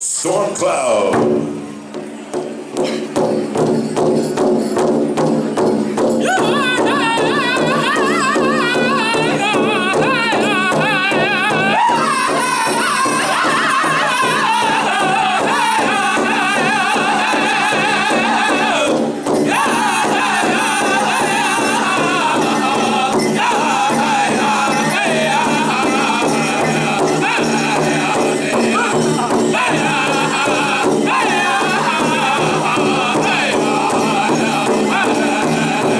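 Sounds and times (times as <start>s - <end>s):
large drum steady beat: 0.2s - 35.9s
high wavering group singing: 6.2s - 35.9s.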